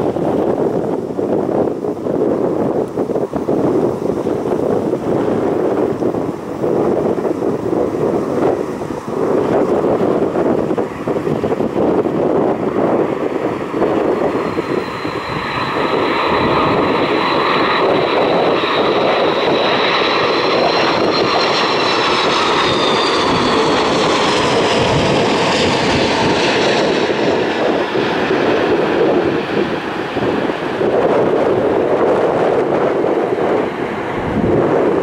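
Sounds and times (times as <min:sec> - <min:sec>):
jet engine whine flying past: 0:00.0 - 0:35.0
wind noise on microphone: 0:00.0 - 0:35.0.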